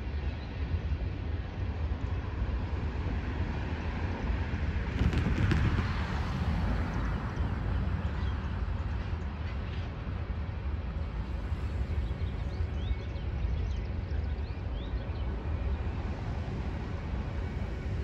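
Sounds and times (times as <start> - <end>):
distant freight train rumble: 0.0 - 18.0.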